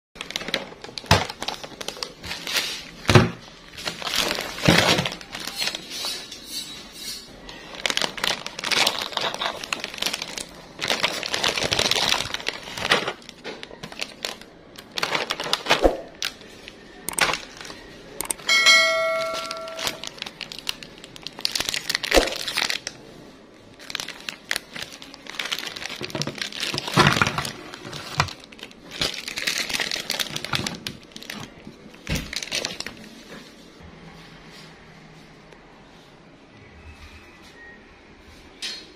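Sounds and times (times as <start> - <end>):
plastic packaging crinkling: 0.2 - 6.4, 7.4 - 18.5, 19.2 - 33.3.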